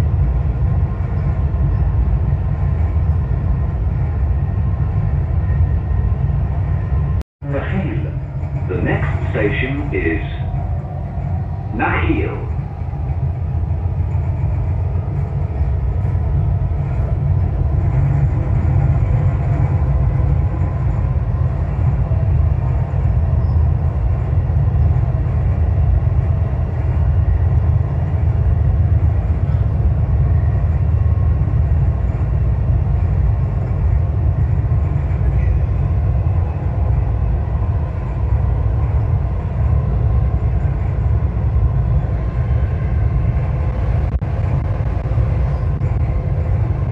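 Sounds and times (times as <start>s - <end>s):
train wheels rumbling: 0.0s - 46.9s.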